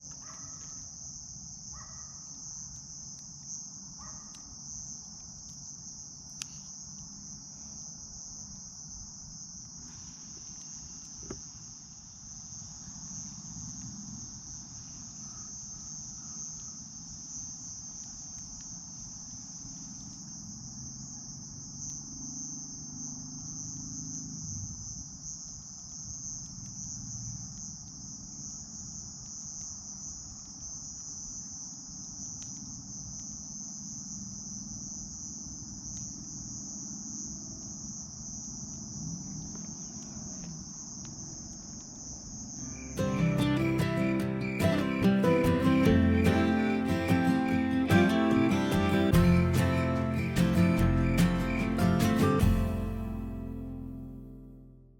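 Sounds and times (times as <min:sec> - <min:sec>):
crickets chirring: 0:00.0 - 0:54.6.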